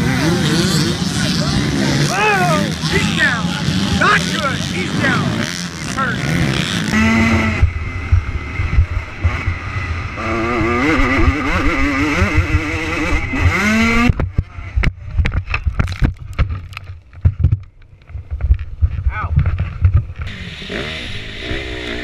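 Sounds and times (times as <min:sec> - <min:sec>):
dirt bike engine revving: 0:00.0 - 0:15.1, 0:19.5 - 0:22.0.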